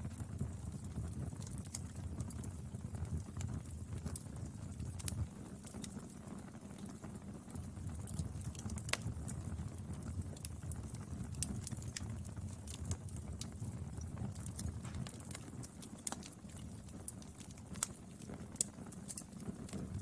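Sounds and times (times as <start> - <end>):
burning wood crackling and popping: 0.0 - 20.0
low rumble of flames: 0.0 - 20.0.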